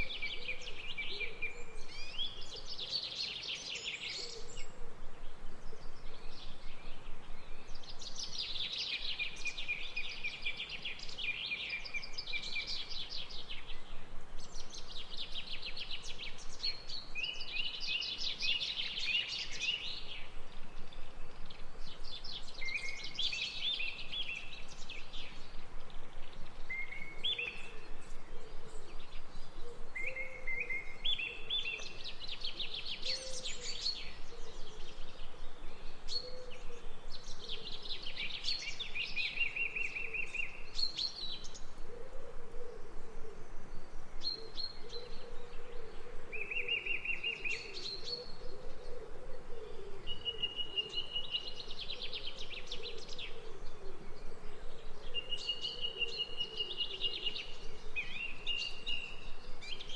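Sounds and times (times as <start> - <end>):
faint low bird calls: 3.7 - 59.9.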